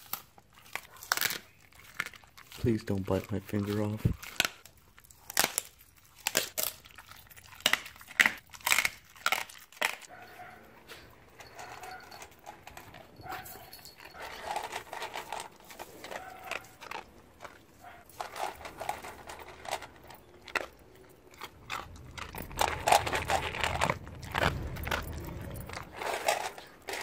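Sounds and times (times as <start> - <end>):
dog crunching dry kibble: 0.0 - 27.0.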